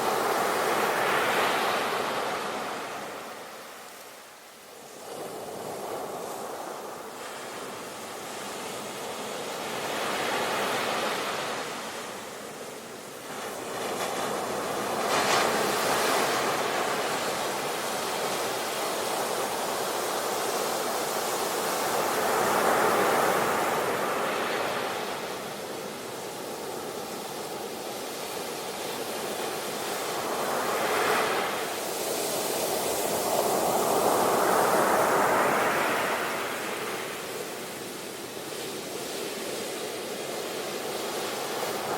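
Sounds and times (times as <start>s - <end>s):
ocean waves breaking on shore: 0.0s - 41.9s.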